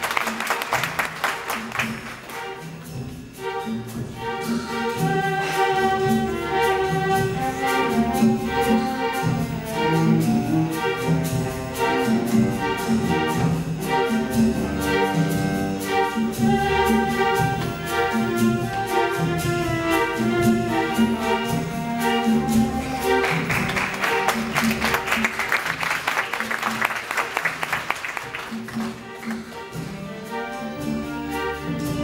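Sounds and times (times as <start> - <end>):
symphony orchestra playing: 0.0 - 32.0.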